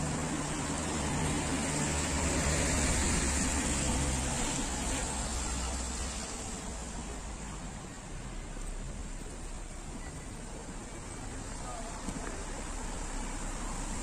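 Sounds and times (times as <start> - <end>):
tyre hiss on wet road: 0.0 - 9.9, 10.8 - 14.0
passing vehicle engine rumble: 0.0 - 14.0.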